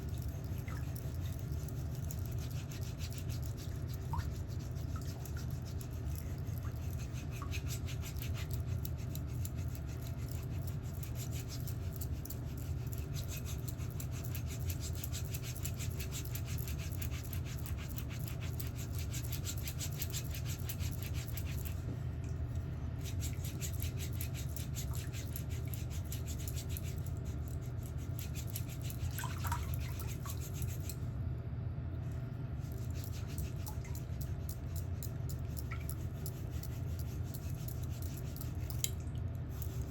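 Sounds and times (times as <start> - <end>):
rasping strokes on a toenail: 0.0 - 21.8, 23.0 - 31.0, 32.6 - 38.9, 39.5 - 39.9
steady low hum: 0.0 - 39.9.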